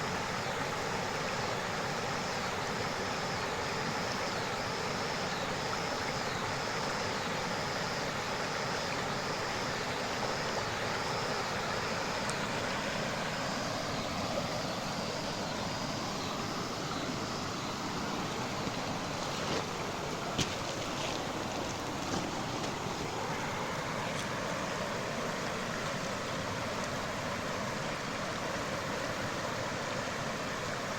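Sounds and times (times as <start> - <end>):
flowing water rushing: 0.0 - 30.9.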